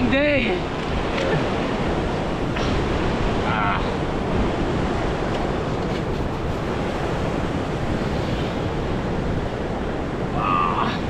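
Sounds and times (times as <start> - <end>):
ocean surf washing: 0.0 - 11.0
wind buffeting microphone: 0.0 - 11.0.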